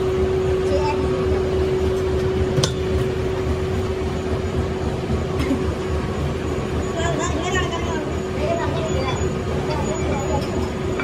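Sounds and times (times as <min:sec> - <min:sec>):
workshop machinery humming: 0:00.0 - 0:11.0.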